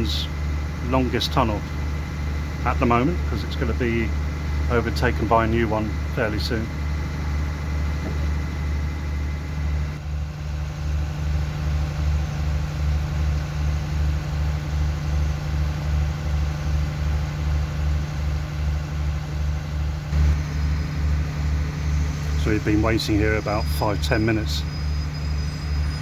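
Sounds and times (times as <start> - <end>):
train diesel engine idling: 0.0 - 26.0.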